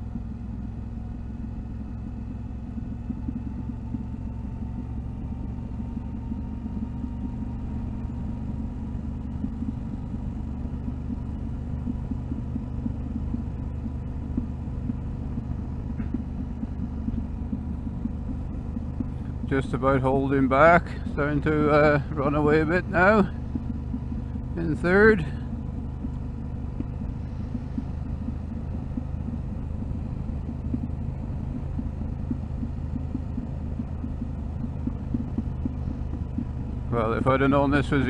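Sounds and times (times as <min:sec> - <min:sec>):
motorcycle engine at low revs: 0:00.0 - 0:38.0.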